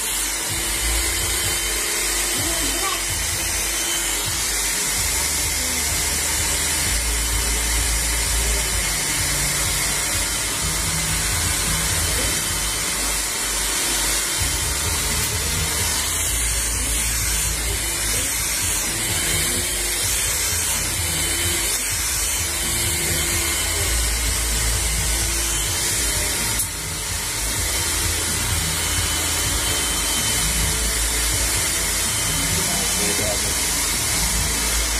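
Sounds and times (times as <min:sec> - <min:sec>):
hair dryer blowing: 0:00.0 - 0:34.9
music playing: 0:00.0 - 0:34.9.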